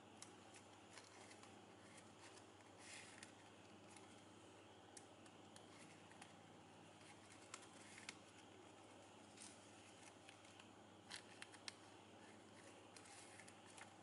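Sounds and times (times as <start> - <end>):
quiet room hum: 0.0 - 14.0
ribbon crackling and rustling: 0.0 - 14.0.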